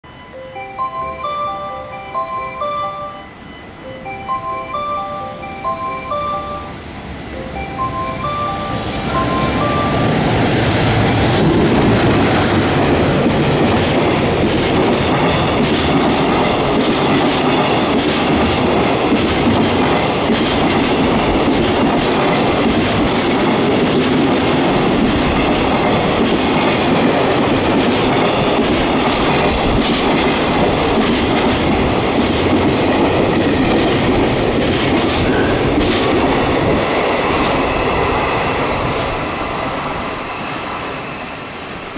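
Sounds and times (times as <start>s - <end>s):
freight train wheels rumbling: 0.8s - 41.9s
wheels clickety-clack on rail joints: 7.8s - 41.9s.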